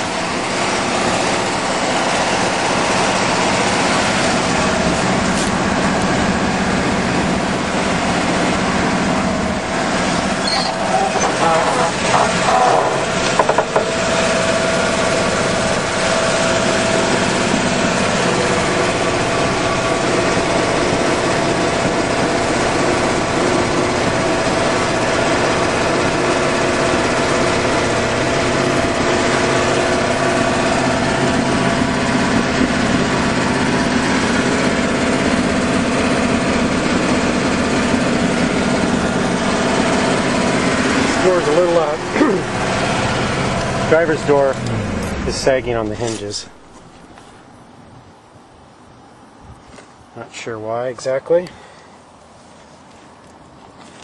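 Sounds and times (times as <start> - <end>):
engine humming steadily: 0.0 - 50.5.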